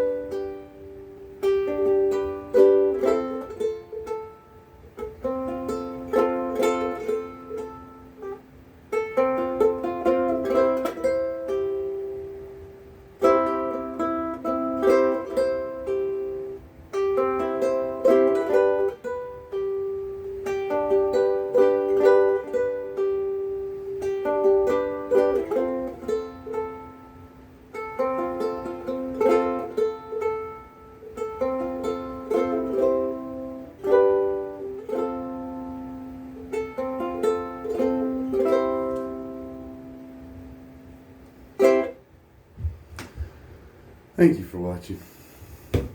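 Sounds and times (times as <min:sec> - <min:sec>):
ukulele fingerpicked: 0:00.0 - 0:43.4.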